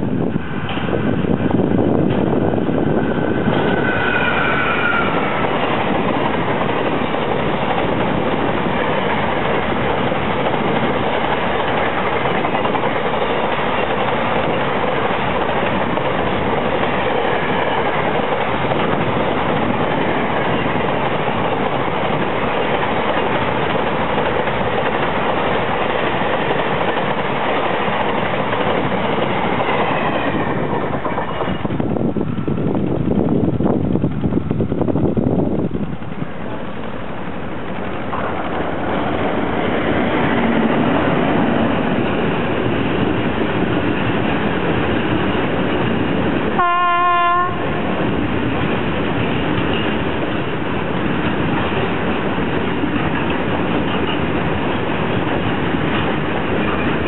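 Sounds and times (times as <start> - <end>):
freight train rattling past: 0.0 - 57.0.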